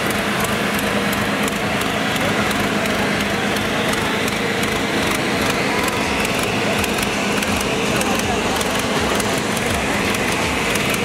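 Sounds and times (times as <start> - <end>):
tractor diesel engines under load: 0.0 - 11.0.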